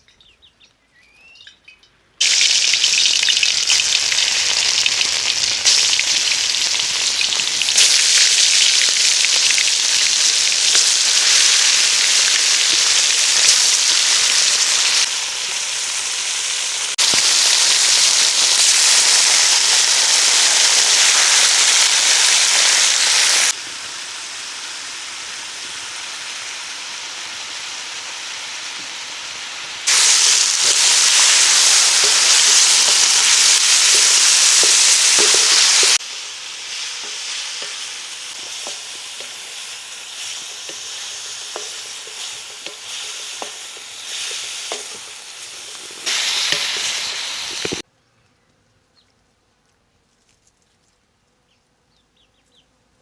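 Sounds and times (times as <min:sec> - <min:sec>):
food sizzling in a pot: 0:02.2 - 0:47.9.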